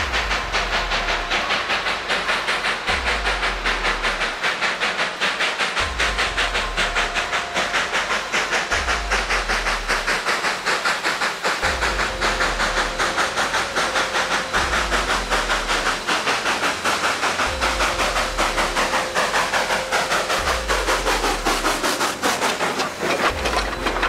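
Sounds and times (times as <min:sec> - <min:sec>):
steady hiss: 0:00.0 - 0:24.0
train wheels rhythm: 0:00.0 - 0:24.0.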